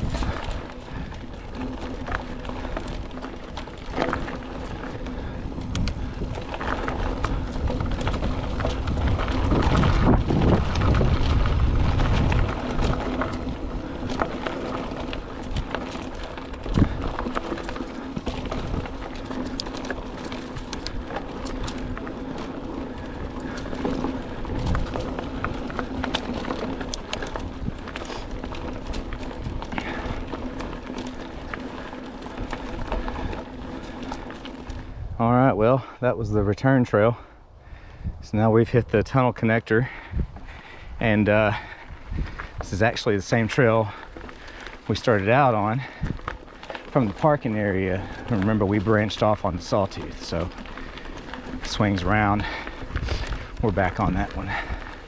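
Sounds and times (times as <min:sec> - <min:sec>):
wind buffeting microphone: 0:00.0 - 0:35.3, 0:37.4 - 0:39.1, 0:39.9 - 0:55.0
bike rattling over bumps: 0:00.0 - 0:36.0, 0:39.8 - 0:55.0
bike tyres crunching on gravel: 0:00.0 - 0:55.0.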